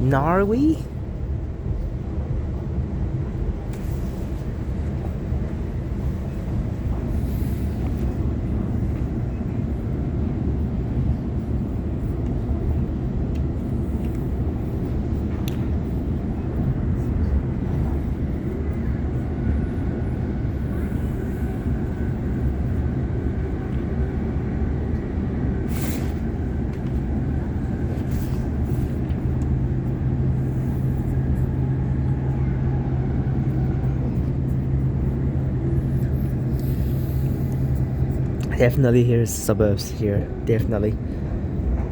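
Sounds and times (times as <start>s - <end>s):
train wheels rumbling on track: 0.7s - 41.9s.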